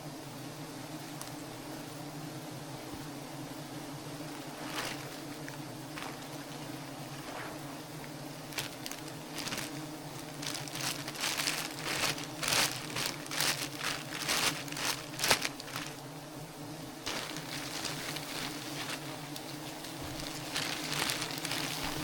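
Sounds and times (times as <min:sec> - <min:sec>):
bees humming: 0:00.0 - 0:22.0
crackling noises: 0:01.0 - 0:01.5, 0:03.8 - 0:16.3, 0:16.9 - 0:22.0.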